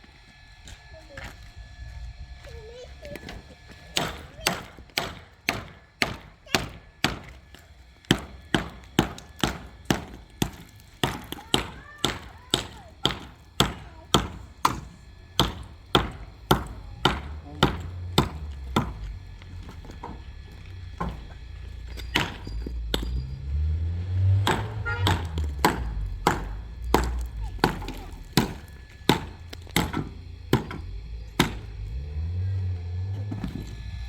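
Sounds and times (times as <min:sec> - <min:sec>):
tool striking wood: 0:03.9 - 0:32.2, 0:33.2 - 0:33.8.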